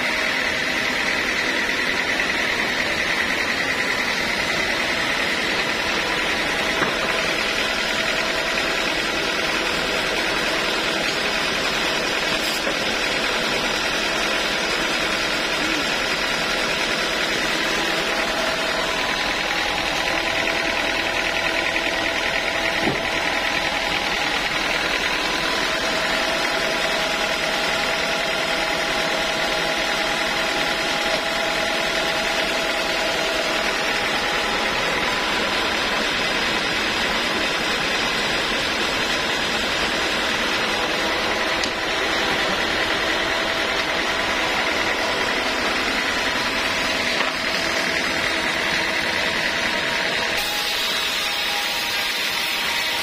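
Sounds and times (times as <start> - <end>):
band sawmill idling: 0.0 - 53.0.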